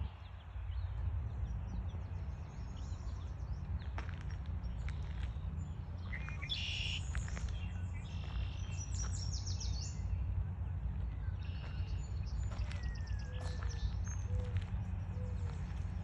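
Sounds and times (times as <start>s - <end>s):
songbirds chirping in buzzy trills: 0.0s - 16.0s
steady low rumble: 0.0s - 16.0s.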